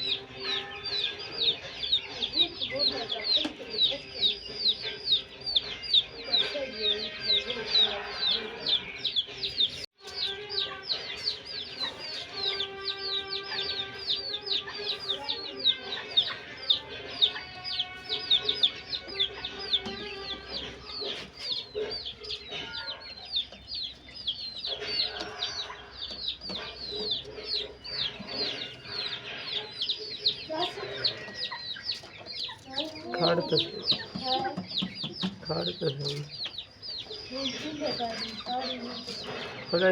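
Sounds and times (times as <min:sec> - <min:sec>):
chickens peeping: 0:00.0 - 0:39.9.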